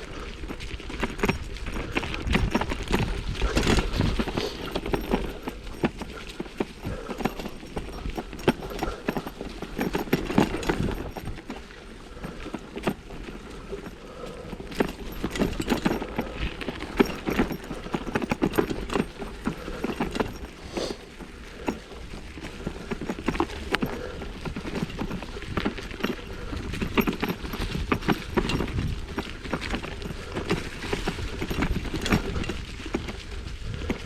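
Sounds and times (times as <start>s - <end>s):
bicycle rattling over dirt trail: 0.0s - 34.0s.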